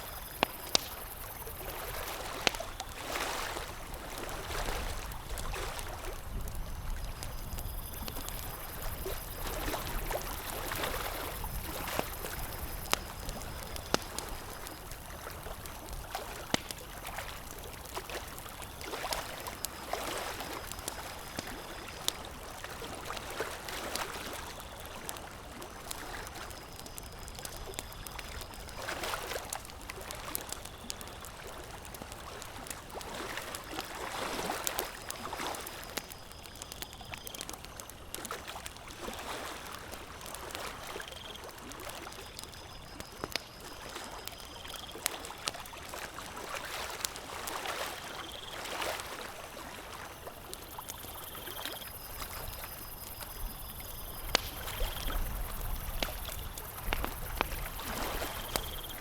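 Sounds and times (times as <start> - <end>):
campfire crackling: 0.0 - 59.0
lake water lapping: 0.3 - 36.2, 37.4 - 59.0.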